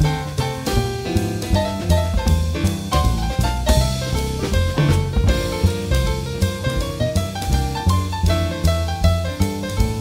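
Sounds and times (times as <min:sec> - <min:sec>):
piano chords and melody: 0:00.0 - 0:10.0
walking double bass: 0:00.0 - 0:10.0.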